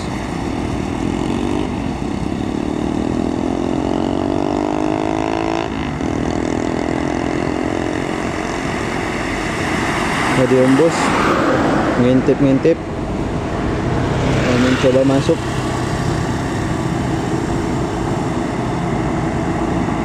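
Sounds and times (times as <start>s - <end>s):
bus diesel engine: 0.0s - 20.0s
tyre and traffic noise: 0.0s - 20.0s.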